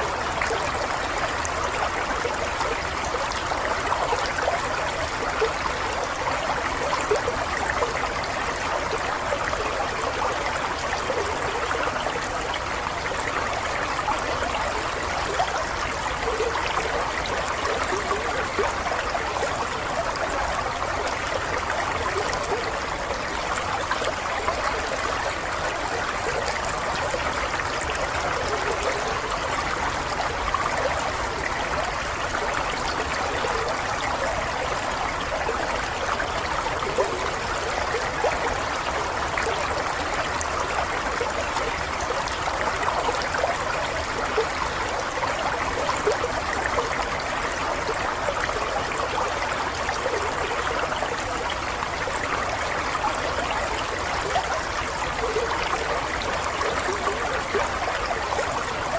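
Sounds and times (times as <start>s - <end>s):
water trickling and bubbling: 0.0s - 58.9s.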